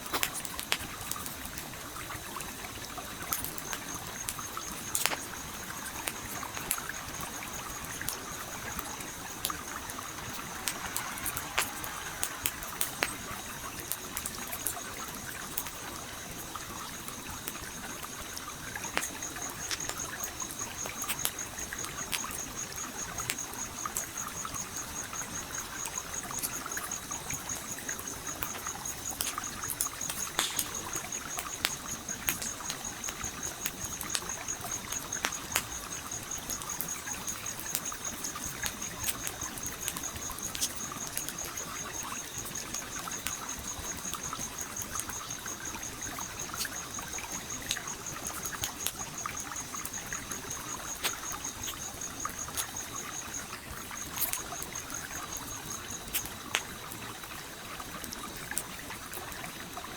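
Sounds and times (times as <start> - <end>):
trickling stream: 0.0 - 59.9
wood fire crackling and popping: 0.0 - 59.9.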